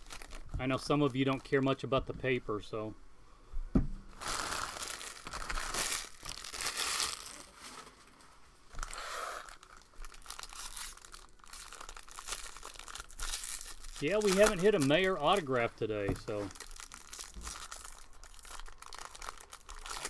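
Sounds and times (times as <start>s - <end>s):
foil wrappers crinkling: 0.0s - 1.7s, 4.2s - 20.0s.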